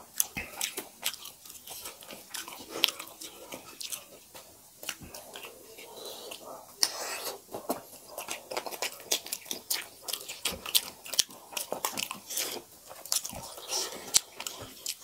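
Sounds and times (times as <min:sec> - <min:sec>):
wet chewing: 0:00.0 - 0:15.0
mouth clicks and smacks: 0:00.1 - 0:15.0.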